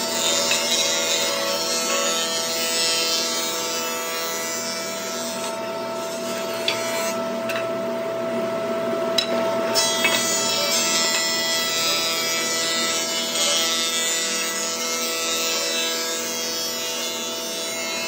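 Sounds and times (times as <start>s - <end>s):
cutter head planing wood: 0.0s - 7.8s, 9.3s - 18.0s
thickness planer whining: 0.0s - 18.0s.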